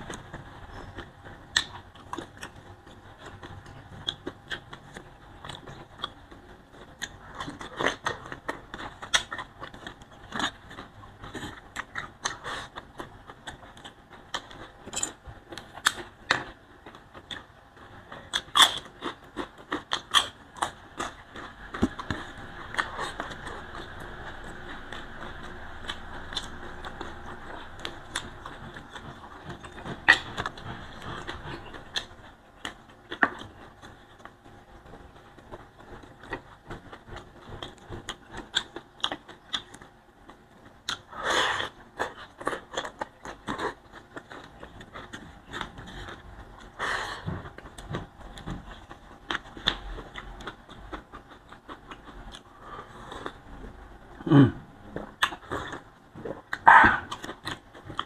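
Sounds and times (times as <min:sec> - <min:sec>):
wet chewing and lip smacks: 0:00.0 - 0:46.8, 0:47.5 - 0:52.5.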